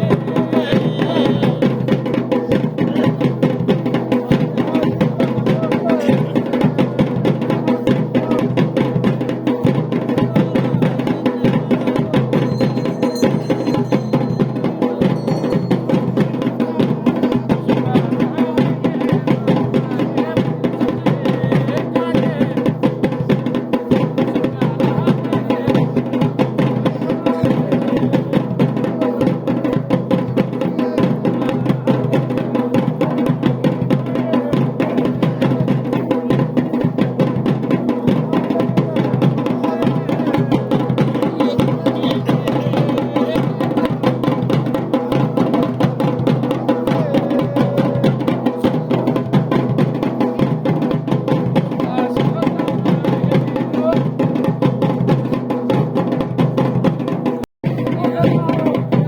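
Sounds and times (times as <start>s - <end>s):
drums in steady rhythm: 0.0s - 59.0s.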